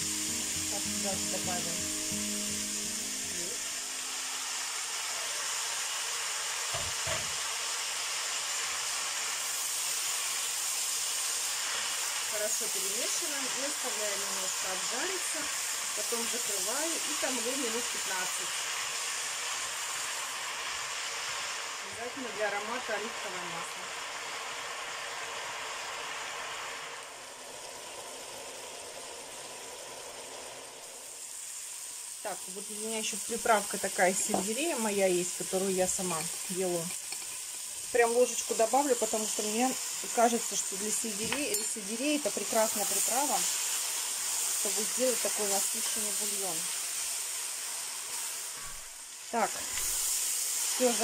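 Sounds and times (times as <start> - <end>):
vegetables sizzling in oil: 0.0 - 51.0.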